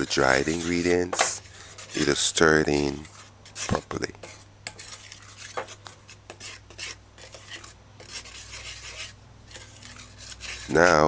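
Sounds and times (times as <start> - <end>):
spoon scraping glass bowl: 0.0 - 11.0.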